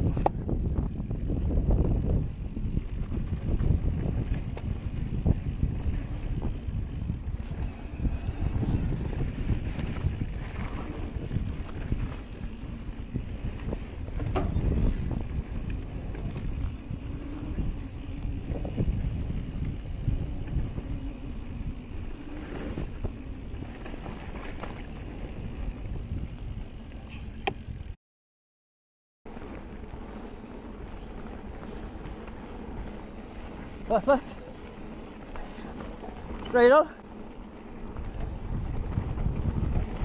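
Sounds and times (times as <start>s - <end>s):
bike knocking and rattling: 0.0s - 28.0s, 29.3s - 40.0s
bike tyre rumble: 0.0s - 28.0s, 29.3s - 40.0s
wind buffeting microphone: 0.0s - 28.0s, 29.4s - 40.0s.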